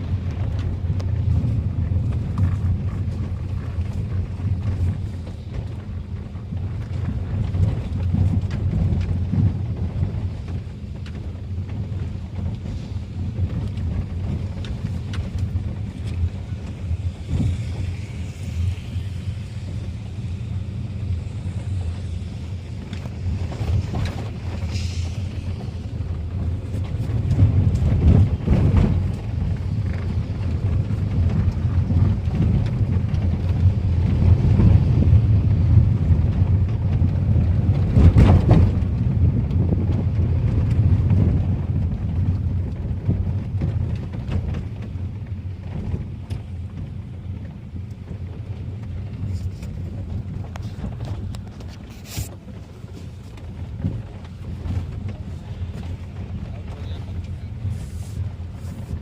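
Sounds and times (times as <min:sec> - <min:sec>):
car engine and road rumble: 0:00.0 - 0:59.0
wind buffeting microphone: 0:00.0 - 0:59.0.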